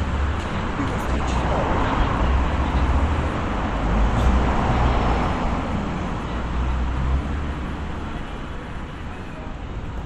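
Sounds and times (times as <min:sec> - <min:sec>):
low traffic rumble: 0:00.0 - 0:10.0.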